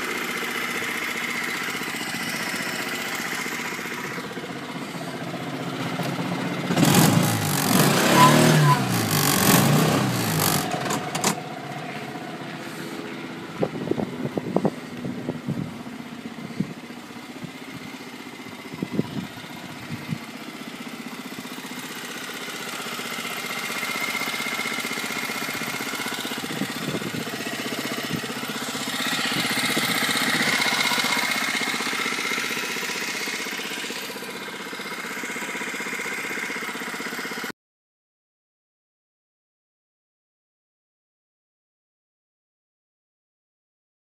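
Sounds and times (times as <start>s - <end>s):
small engine idling: 0.0s - 37.5s.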